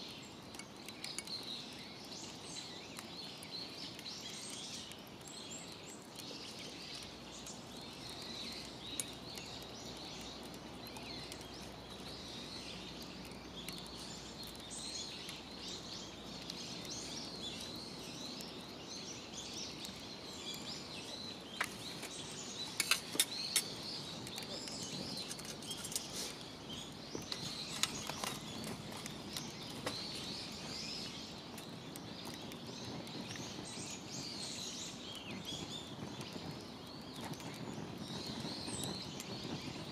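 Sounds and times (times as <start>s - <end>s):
birds chirping and calling: 0.1s - 39.9s.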